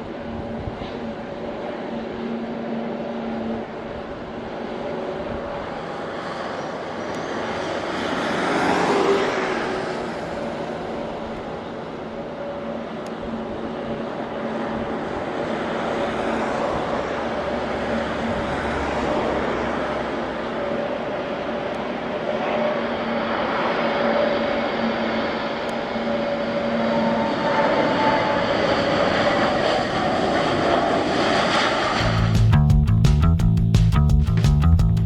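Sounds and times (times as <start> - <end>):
airliner engines passing: 0.0 - 33.6.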